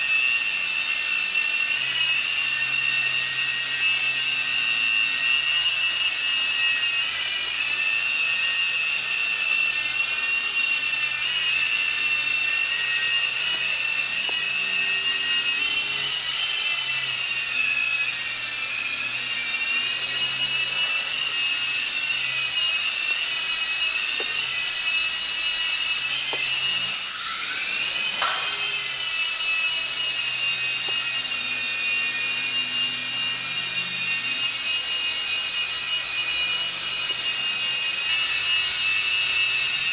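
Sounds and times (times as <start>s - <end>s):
toy helicopter motor whine: 0.0s - 39.9s.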